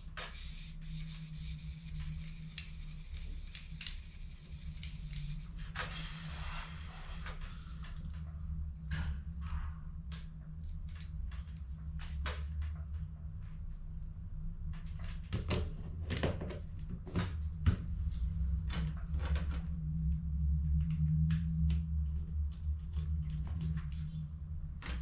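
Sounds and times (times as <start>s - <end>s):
steady low hum: 0.0s - 16.0s, 16.6s - 25.0s.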